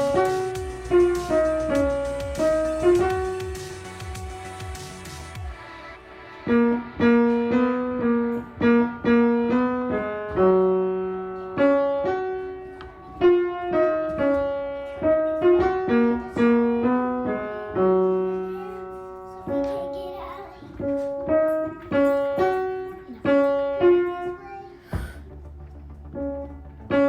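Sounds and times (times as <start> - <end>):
slow piano tune: 0.0 - 27.0.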